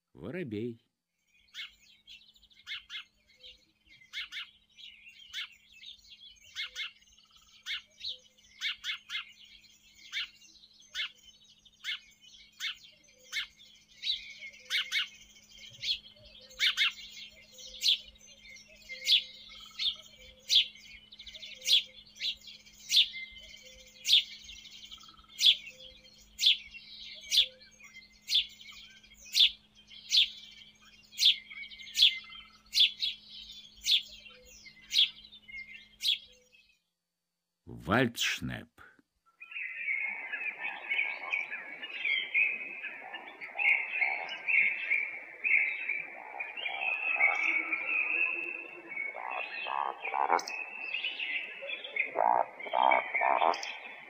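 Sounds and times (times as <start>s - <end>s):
sparrows chirping: 0.4s - 36.9s, 39.3s - 54.0s.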